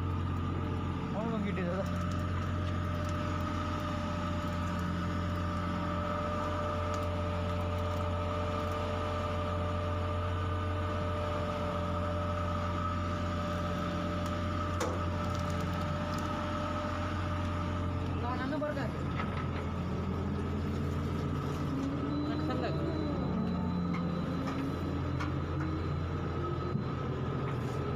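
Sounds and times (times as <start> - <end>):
boat engine droning: 0.0 - 27.9
high engine whine: 0.0 - 27.9.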